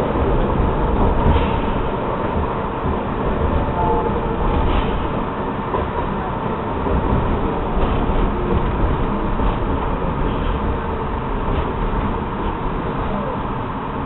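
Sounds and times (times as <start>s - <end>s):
subway train wheels rumbling: 0.0s - 14.0s.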